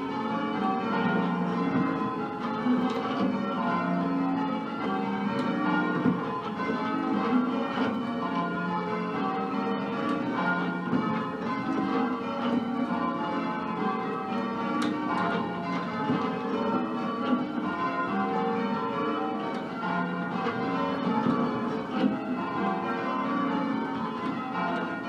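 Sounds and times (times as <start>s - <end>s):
church bells ringing changes: 0.0s - 25.0s.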